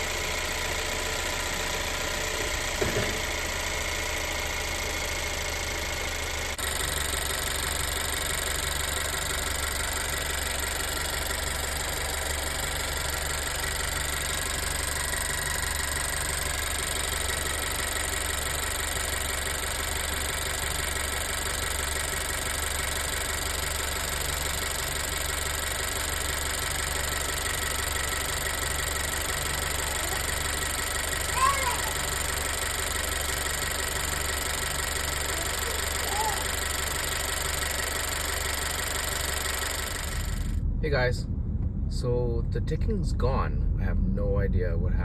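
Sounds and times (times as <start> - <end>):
car engine idling: 0.0 - 42.2.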